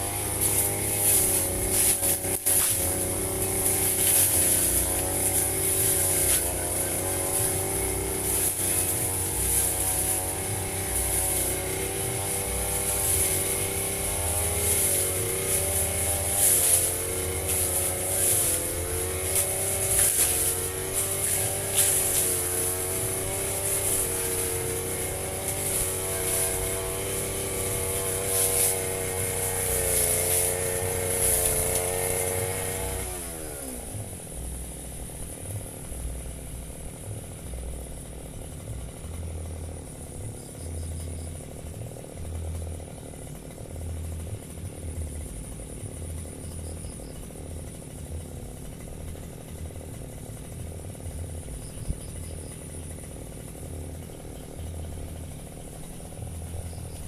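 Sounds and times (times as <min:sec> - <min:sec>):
brush cutter engine running: 0:00.0 - 0:57.0
low uneven engine rumble: 0:00.0 - 0:57.0.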